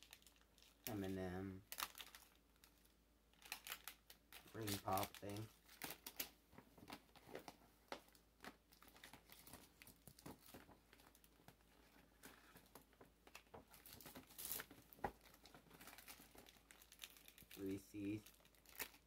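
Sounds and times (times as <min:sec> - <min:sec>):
plastic wrappers crinkling: 0:00.0 - 0:19.0.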